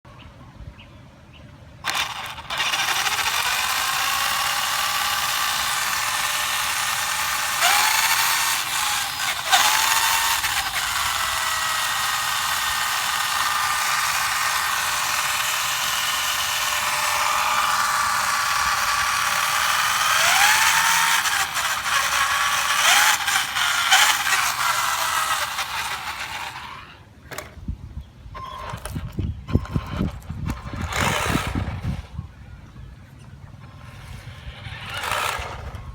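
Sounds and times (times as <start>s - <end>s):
electric rc car motor whining: 1.8s - 27.5s, 28.4s - 32.1s, 33.6s - 35.9s.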